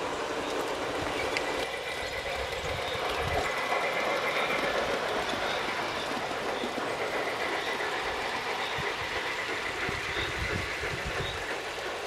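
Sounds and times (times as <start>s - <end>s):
model train rolling on track: 0.0s - 12.0s
wheels knocking: 0.0s - 12.0s.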